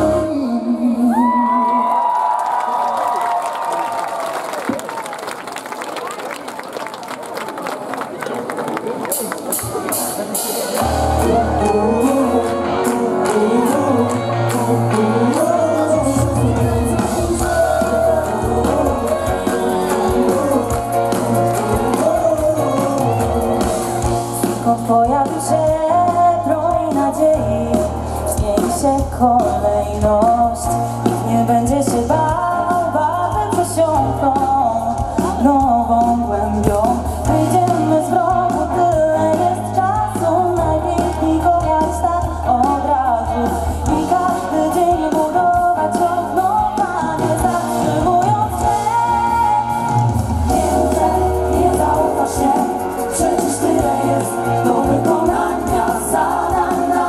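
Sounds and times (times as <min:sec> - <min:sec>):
woman singing lead: 0:00.0 - 0:04.2, 0:10.8 - 0:57.0
guitar: 0:10.4 - 0:57.0
steady bass line: 0:10.8 - 0:57.0.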